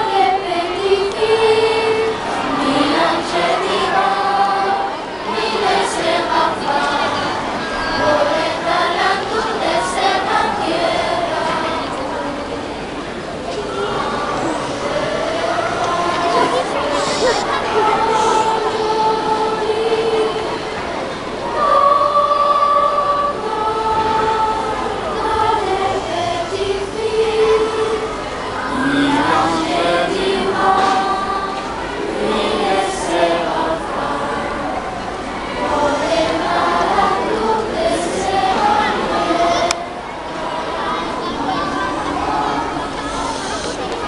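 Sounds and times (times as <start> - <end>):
youth choir singing unaccompanied: 0.0 - 44.0.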